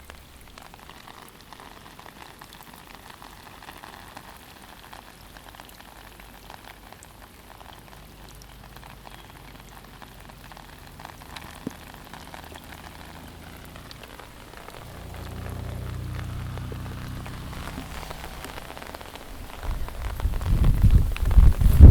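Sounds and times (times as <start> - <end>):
heavy rain falling: 0.0 - 21.9.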